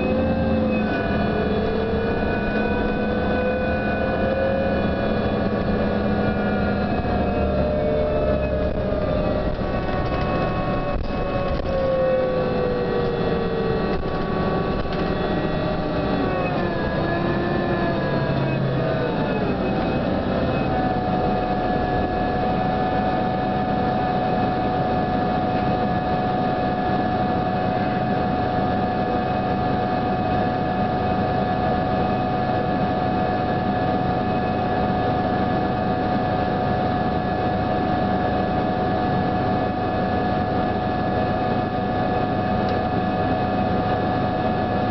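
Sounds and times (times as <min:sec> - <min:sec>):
bus drivetrain whine: 0:00.0 - 0:44.9
bus running rumble: 0:00.0 - 0:44.9.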